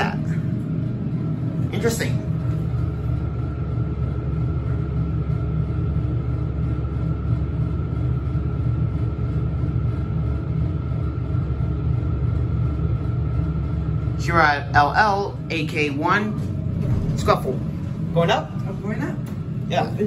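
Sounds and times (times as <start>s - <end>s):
elevator low rumble: 0.0s - 20.0s.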